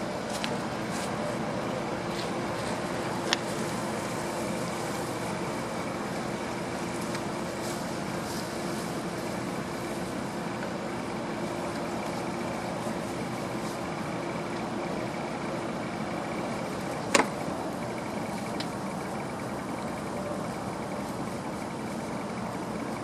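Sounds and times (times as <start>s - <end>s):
faint constant tone: 0.0s - 23.0s
steady background hum: 0.0s - 23.0s.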